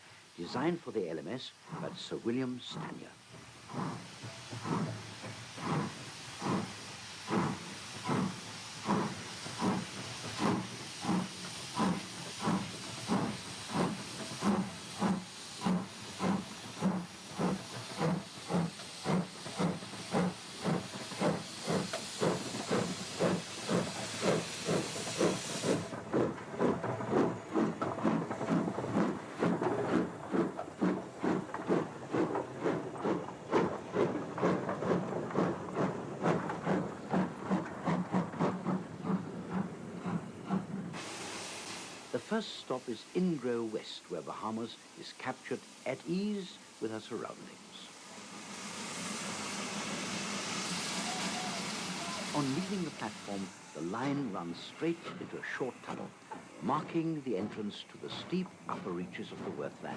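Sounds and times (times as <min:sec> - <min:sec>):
steam hissing: 0:00.0 - 0:59.9
steam locomotive chuffing: 0:00.4 - 0:59.9.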